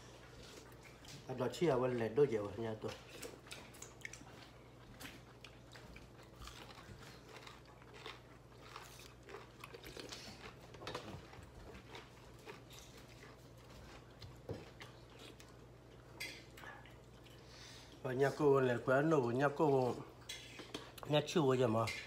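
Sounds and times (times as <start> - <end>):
people chewing food: 0.0 - 21.2.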